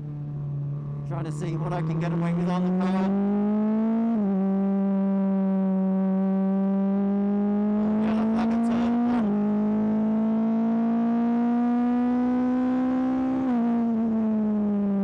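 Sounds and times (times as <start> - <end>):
car engine revving hard: 1.2 - 14.7.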